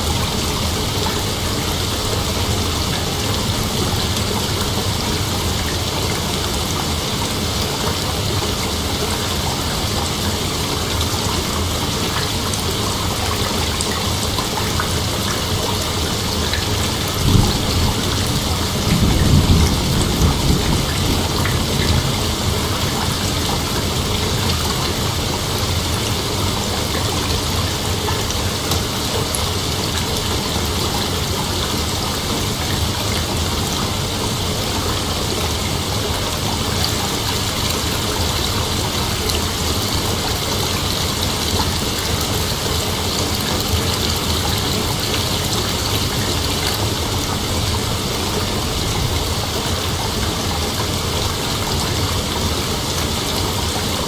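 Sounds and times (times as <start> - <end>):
continuous rushing hiss: 0.0 - 54.0.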